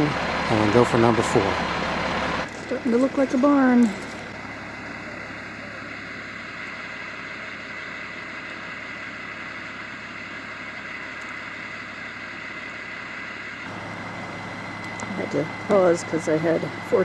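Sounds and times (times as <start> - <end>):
constant high whine: 0.0 - 17.0
crane engine running: 0.0 - 17.0.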